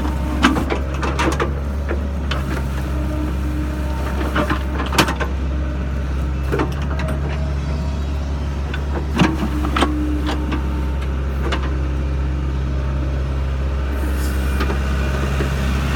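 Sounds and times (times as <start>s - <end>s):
mini excavator engine running: 0.0s - 15.9s.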